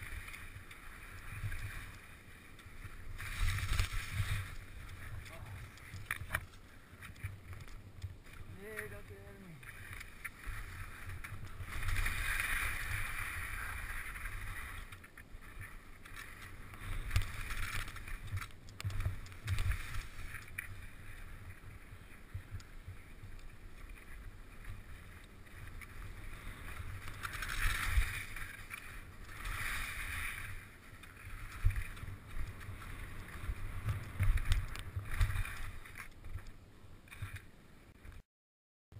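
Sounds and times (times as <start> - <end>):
skis scraping through snow: 0.0 - 36.4
wind rumble on microphone: 0.0 - 38.2.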